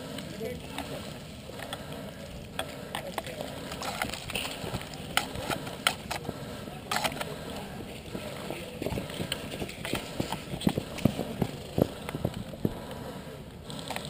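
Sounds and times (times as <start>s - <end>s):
running footsteps: 0.0s - 14.0s.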